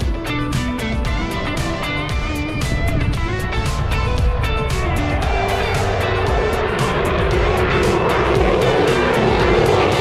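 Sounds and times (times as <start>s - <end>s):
background music: 0.0s - 10.0s
low-flying aircraft engine: 0.0s - 10.0s.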